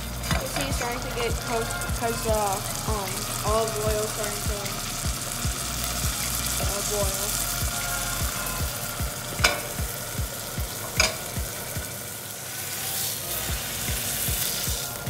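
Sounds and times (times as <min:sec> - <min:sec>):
steak sizzling in a pan: 0:00.0 - 0:15.0.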